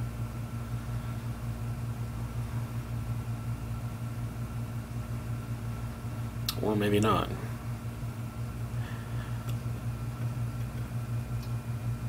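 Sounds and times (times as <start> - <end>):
computer equipment hum: 0.0 - 12.0.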